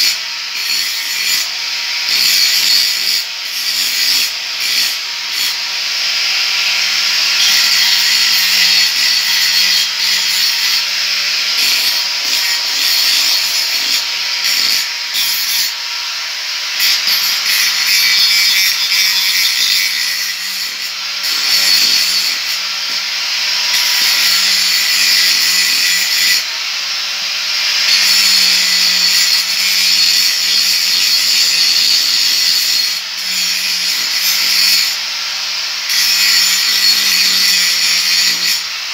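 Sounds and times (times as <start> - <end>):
angle grinder cutting metal: 0.0 - 38.9.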